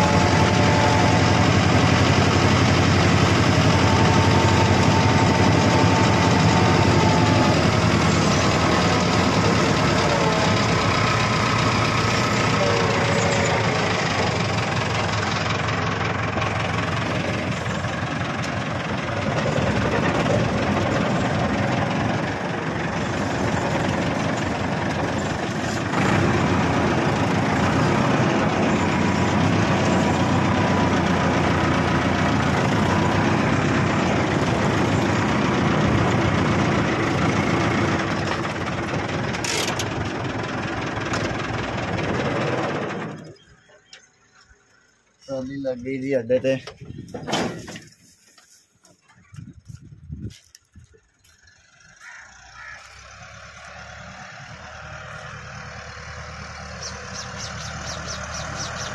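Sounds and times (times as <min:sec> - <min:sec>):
diesel tractor engine knocking: 0:00.0 - 0:58.9.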